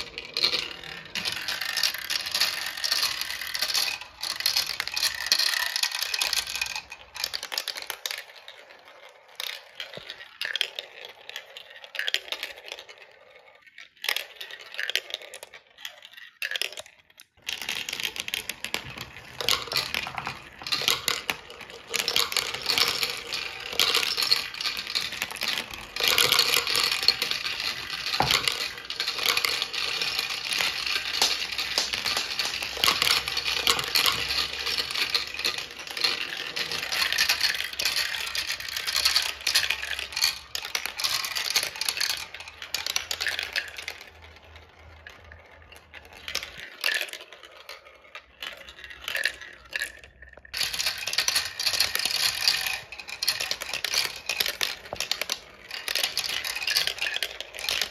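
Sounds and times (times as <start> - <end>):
marbles rattling down plastic track: 0.0 - 57.9.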